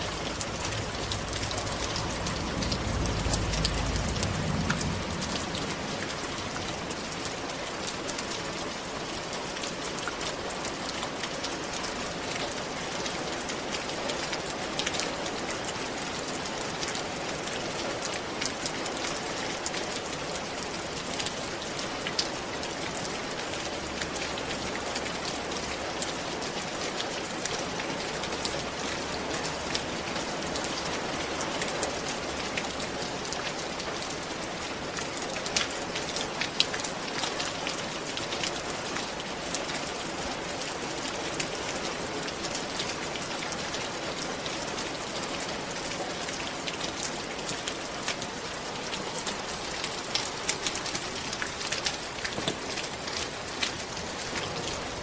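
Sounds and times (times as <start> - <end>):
rain pattering on a roof: 0.0 - 55.0.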